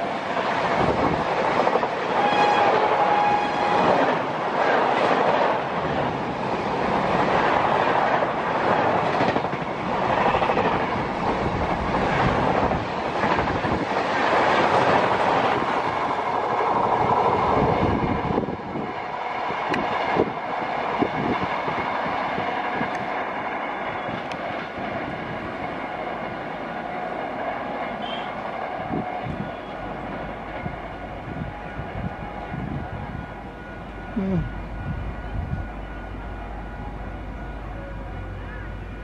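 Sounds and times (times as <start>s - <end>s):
train coaches rushing past: 0.0s - 39.0s.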